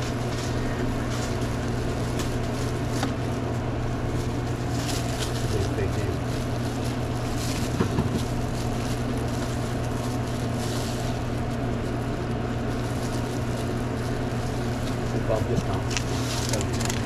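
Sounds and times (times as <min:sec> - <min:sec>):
low electric hum of equipment: 0:00.0 - 0:17.0.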